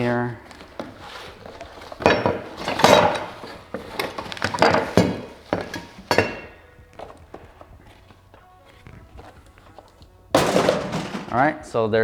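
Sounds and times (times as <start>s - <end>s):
drill press parts clattering: 0.0s - 11.7s.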